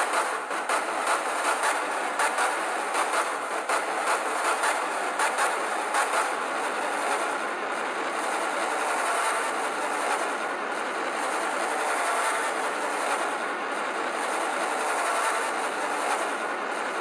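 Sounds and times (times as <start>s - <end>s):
harsh distorted noise: 0.0s - 17.0s.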